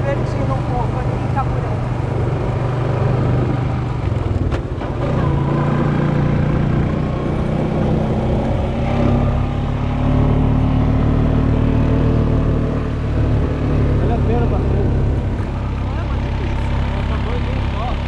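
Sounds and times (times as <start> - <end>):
quad bike engine running: 0.0 - 18.0.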